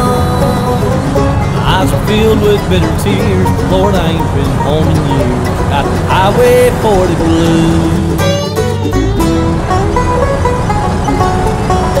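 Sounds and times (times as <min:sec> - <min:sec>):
picked string instrument notes: 0:00.0 - 0:12.0
steady low rumble: 0:00.0 - 0:12.0.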